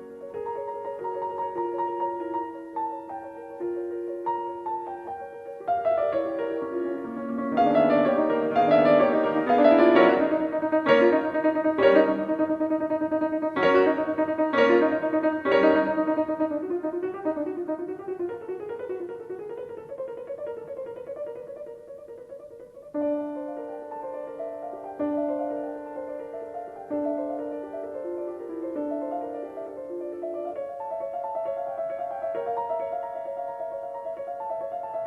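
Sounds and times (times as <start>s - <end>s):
solo classical piano: 0.0s - 35.0s.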